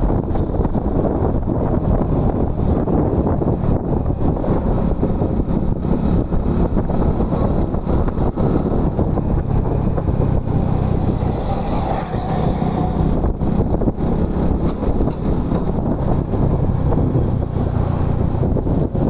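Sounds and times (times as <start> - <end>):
motorcycle engine rumble: 0.0 - 19.0
wind buffeting microphone: 0.0 - 19.0.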